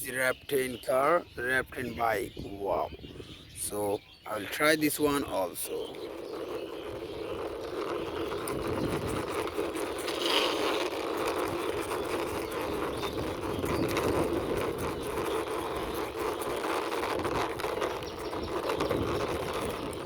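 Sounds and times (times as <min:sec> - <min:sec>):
plastic toy scraping on rough ground: 0:03.1 - 0:20.0.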